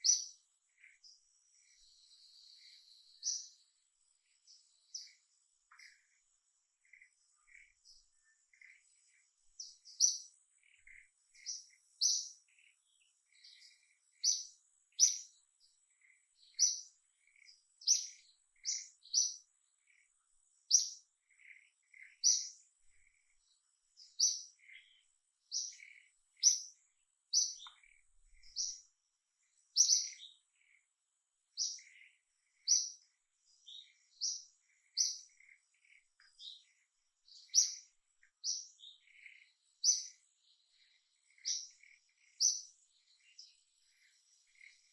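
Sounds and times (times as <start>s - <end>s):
small bird chirping: 0.0s - 44.9s.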